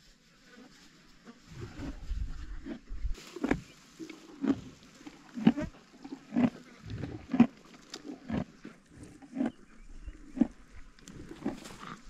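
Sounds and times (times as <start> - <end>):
rhinoceros chewing dry grass: 0.2 - 12.0.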